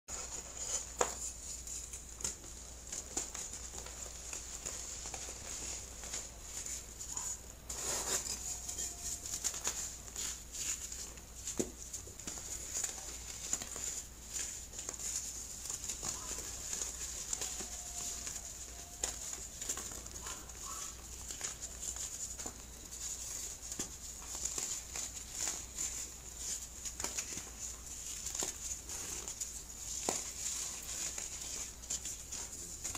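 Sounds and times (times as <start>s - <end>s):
crumbs pattering: 0.1s - 32.9s
hands crunching chalky blocks: 0.1s - 32.9s.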